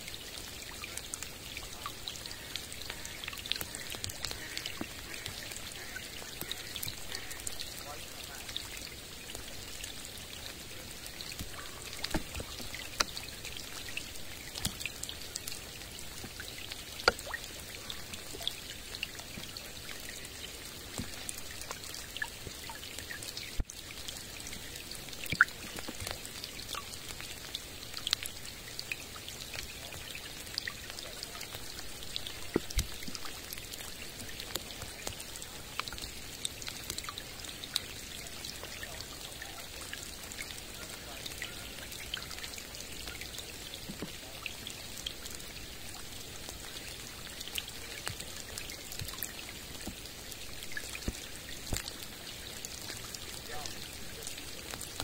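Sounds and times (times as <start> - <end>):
rain falling on a lake: 0.0 - 55.0.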